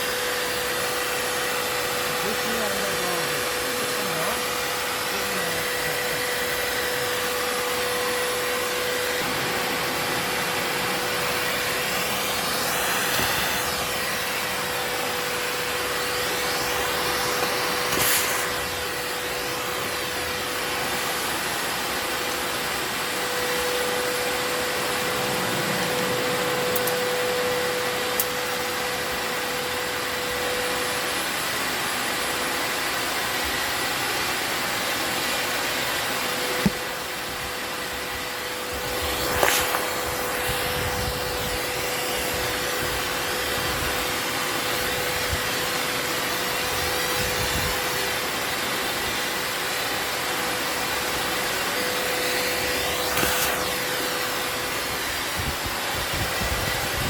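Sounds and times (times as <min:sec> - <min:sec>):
vacuum cleaner whining: 0:00.0 - 0:57.0.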